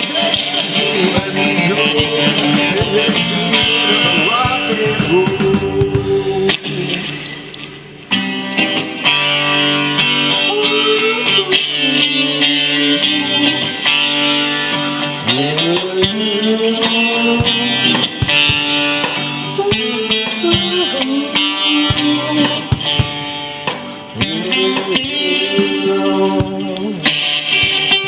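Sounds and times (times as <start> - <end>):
electric guitar solo: 0.0 - 28.0
rhythm guitar strumming: 0.0 - 28.0.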